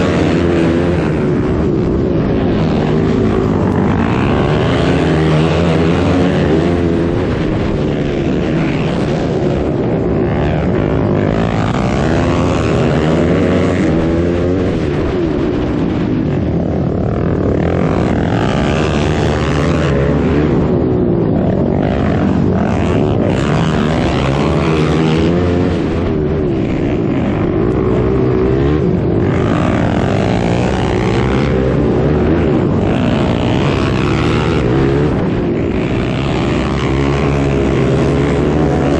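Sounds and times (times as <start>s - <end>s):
atv engine revving: 0.0s - 38.9s
wind noise: 0.0s - 38.9s.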